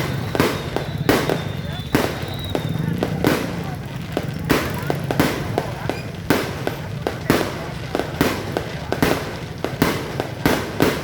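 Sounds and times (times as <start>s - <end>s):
firework cracks: 0.0s - 11.0s
fireworks bangs: 0.0s - 11.0s.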